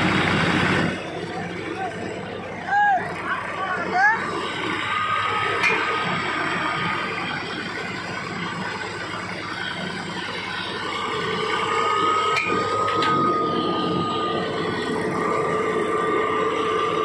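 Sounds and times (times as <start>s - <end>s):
machine whine: 0.0s - 17.0s
winch machine running: 0.0s - 17.0s.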